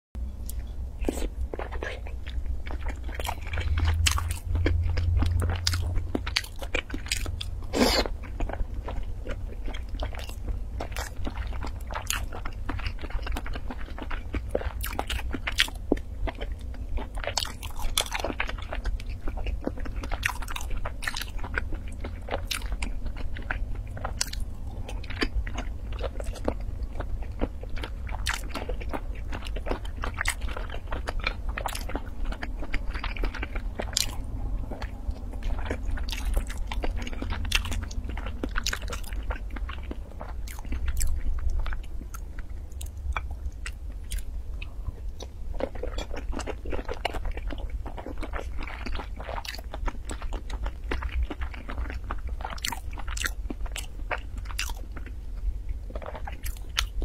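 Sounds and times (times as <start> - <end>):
person chewing: 0.4 - 57.0.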